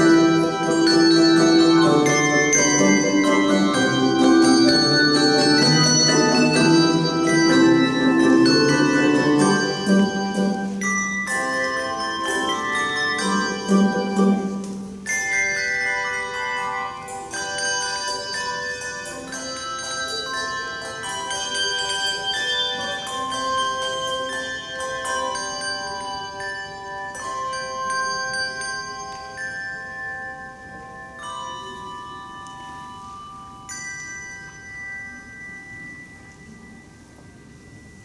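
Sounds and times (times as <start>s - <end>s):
handbell choir playing: 0.0s - 38.0s.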